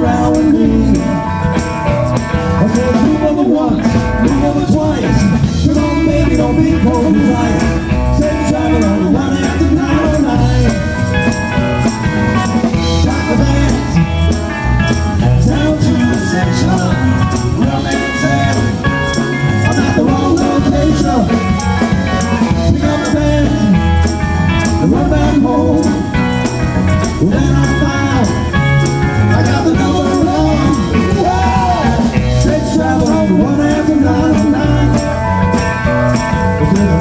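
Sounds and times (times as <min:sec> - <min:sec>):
male singer: 0:00.0 - 0:11.5, 0:12.3 - 0:37.0
bass guitar: 0:00.0 - 0:37.0
drums with steady beat: 0:00.0 - 0:37.0
electric guitars: 0:00.0 - 0:37.0.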